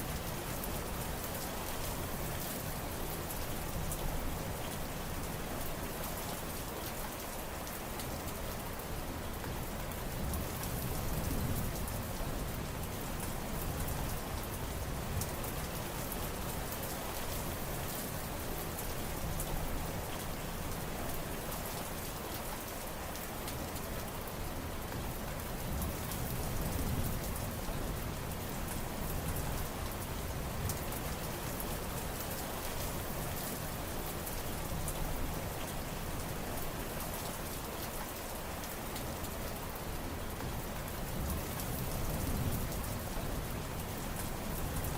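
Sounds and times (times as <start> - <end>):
steady rain patter: 0.0 - 44.9.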